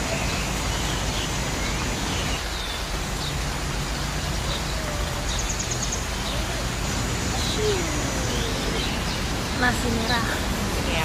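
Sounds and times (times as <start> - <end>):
outdoor background noise: 0.0 - 11.0
bird chirps: 0.1 - 9.3.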